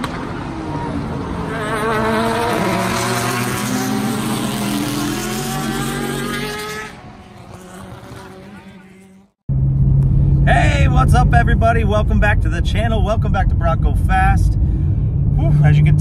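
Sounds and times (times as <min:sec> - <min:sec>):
car engine revving: 0:00.0 - 0:11.8, 0:12.4 - 0:16.0.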